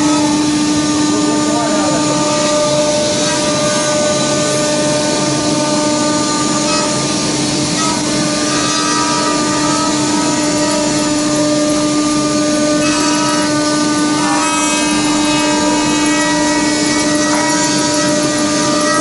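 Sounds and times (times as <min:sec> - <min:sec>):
router spindles whining: 0:00.0 - 0:19.0.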